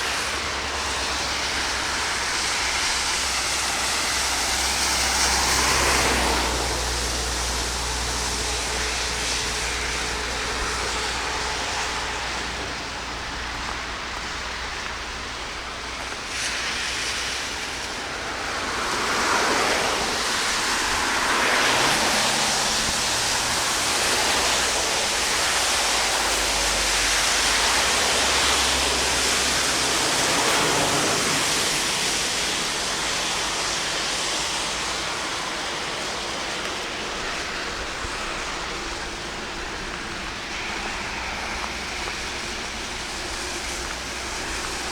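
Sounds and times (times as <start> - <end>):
floodwater rushing: 0.0 - 44.9
heavy rain: 0.0 - 44.9.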